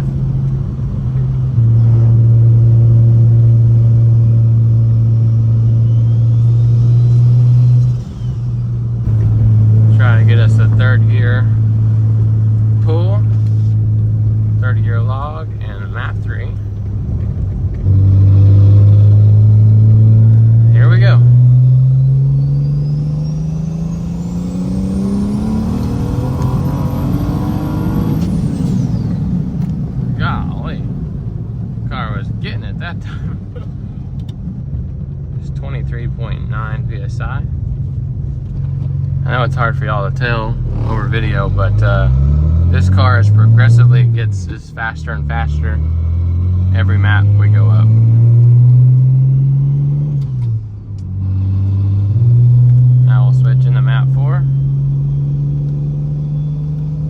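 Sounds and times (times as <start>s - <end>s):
turbo whine: 0.0s - 34.8s, 35.4s - 57.0s
car exhaust drone: 0.0s - 57.0s.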